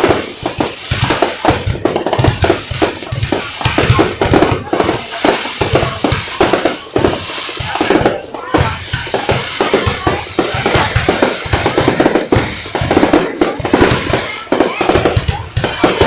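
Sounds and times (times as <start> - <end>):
crackling pops: 0.0 - 16.0
loud music with drum beat: 0.0 - 16.0.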